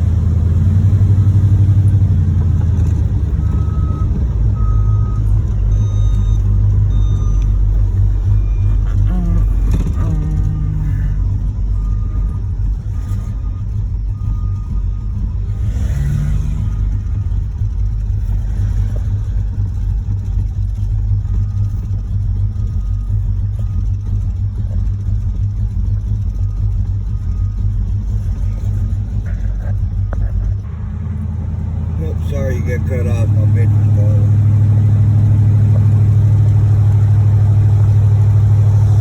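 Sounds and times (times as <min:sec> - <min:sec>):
car engine and road drone: 0:00.0 - 0:39.0.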